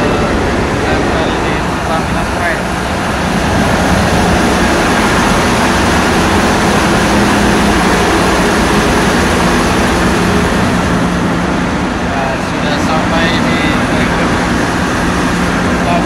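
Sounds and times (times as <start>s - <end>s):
boat diesel engines droning: 0.0s - 16.0s
rushing noise: 0.0s - 16.0s.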